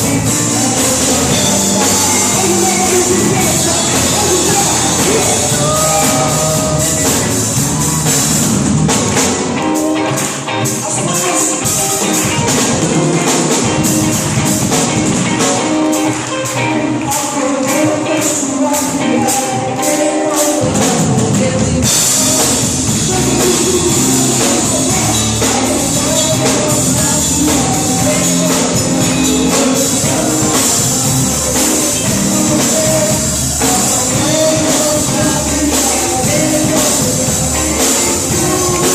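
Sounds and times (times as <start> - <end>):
congregation singing: 0.0 - 9.6, 10.2 - 38.9
drums: 0.0 - 38.9
worship band playing: 0.0 - 38.9.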